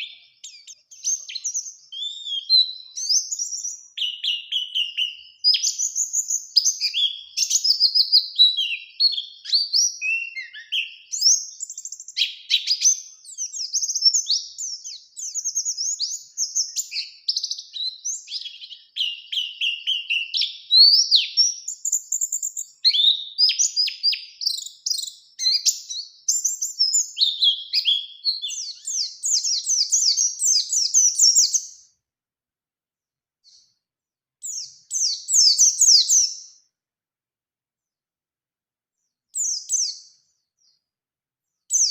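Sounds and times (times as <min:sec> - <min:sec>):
bird twittering song: 0:00.0 - 0:32.0, 0:33.4 - 0:33.8, 0:34.4 - 0:36.7, 0:39.0 - 0:40.9, 0:41.5 - 0:41.9.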